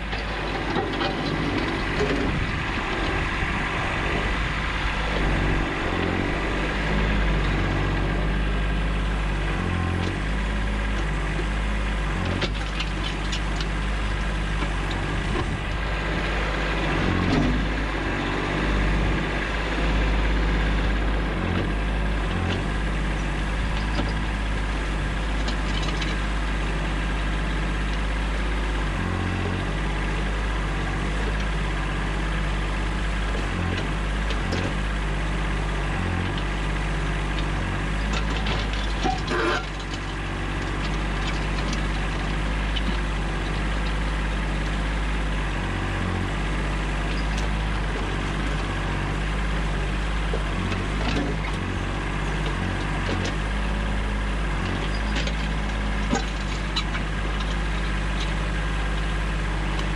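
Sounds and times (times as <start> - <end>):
backhoe bucket scraping rocky ground: 0.0 - 59.9
tractor diesel engine running: 0.0 - 59.9.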